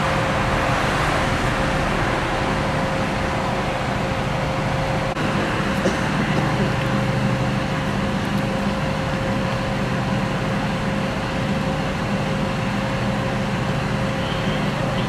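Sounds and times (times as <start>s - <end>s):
fire engine running: 0.0s - 15.0s.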